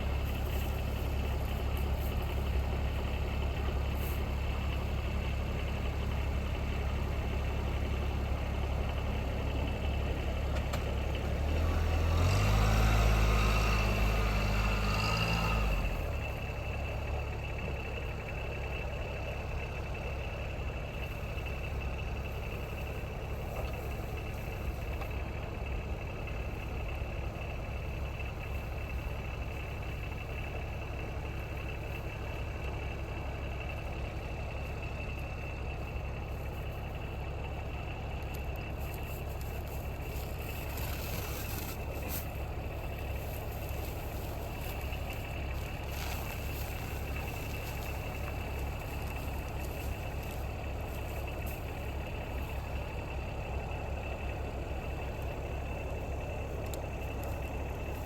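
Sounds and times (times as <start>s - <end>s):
constant high whine: 0.0s - 12.3s, 13.0s - 58.0s
utility vehicle engine running: 0.0s - 58.0s.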